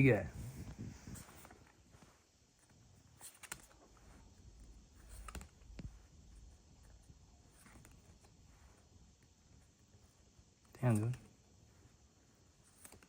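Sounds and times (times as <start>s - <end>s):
faint clicks and rustles of cards: 0.0s - 13.0s.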